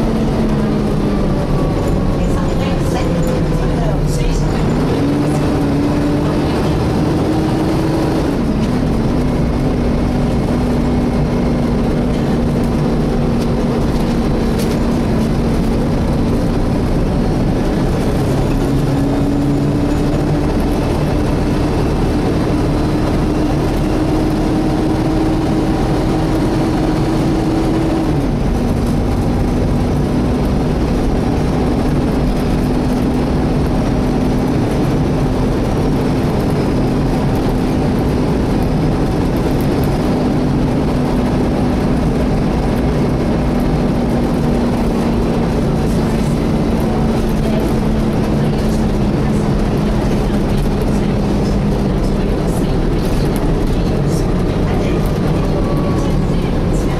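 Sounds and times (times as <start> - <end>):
bus cooling fan whining: 0.0 - 56.9
bus engine and road rumble: 0.0 - 56.9.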